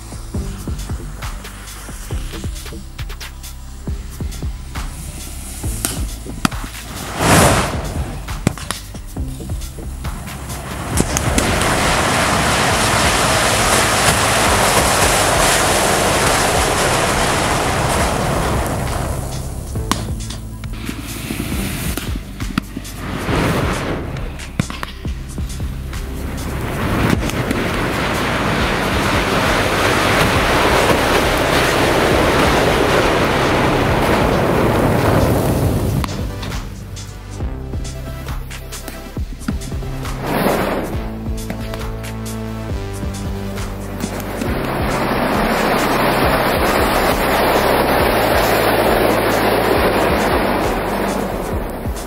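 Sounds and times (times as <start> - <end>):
rush of flame: 0.0 - 52.0.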